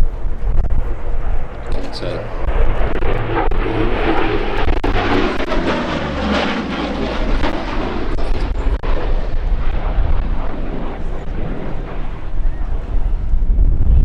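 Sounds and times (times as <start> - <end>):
aircraft piston engines running: 0.0 - 12.9.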